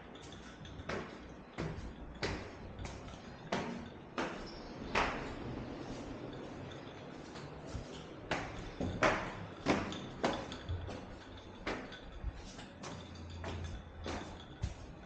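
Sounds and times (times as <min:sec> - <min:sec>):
sharp footsteps: 0:00.0 - 0:15.0.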